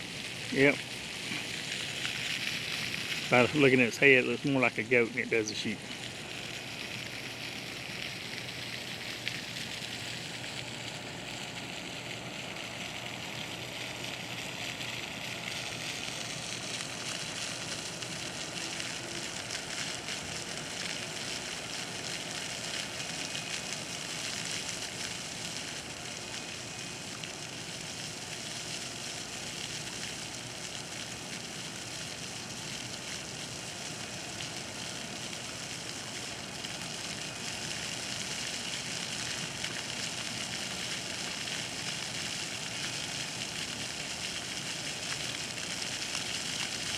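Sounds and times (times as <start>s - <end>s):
water fountain splashing: 0.0s - 46.9s.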